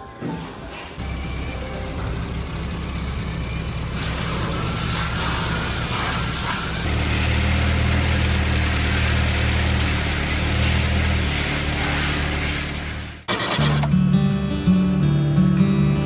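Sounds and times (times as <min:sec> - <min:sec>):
car engine idling: 0:01.0 - 0:14.0.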